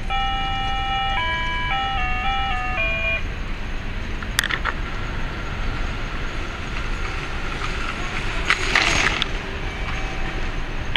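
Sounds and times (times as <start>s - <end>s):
road traffic rumble: 0.0s - 10.9s.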